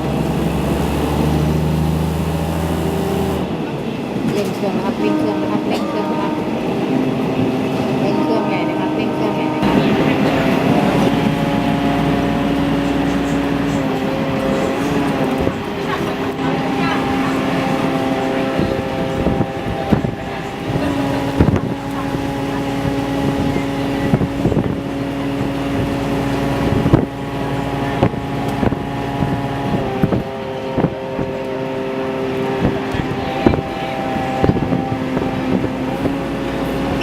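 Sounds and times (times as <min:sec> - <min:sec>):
diesel train engine drone: 0:00.0 - 0:37.0.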